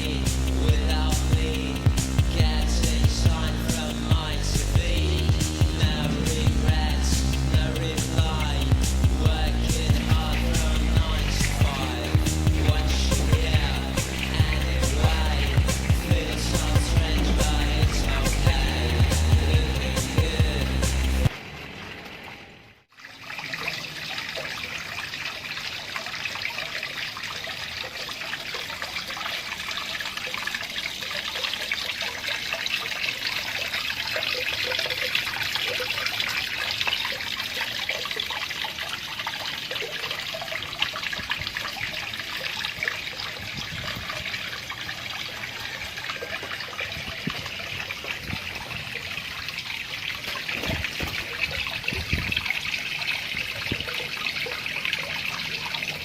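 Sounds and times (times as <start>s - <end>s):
water trickling into a pond: 0.0s - 56.0s.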